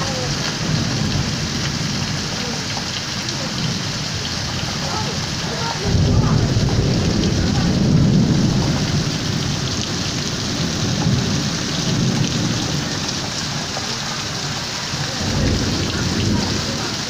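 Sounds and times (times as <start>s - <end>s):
low thunder rumble: 0.0s - 13.7s, 14.9s - 17.0s
heavy rain pouring: 0.0s - 17.0s.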